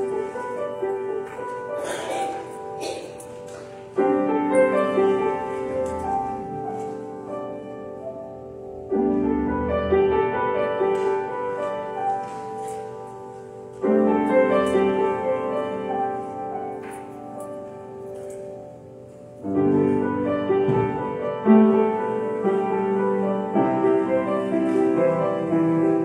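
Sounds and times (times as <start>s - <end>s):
grand piano playing: 0.0s - 26.0s.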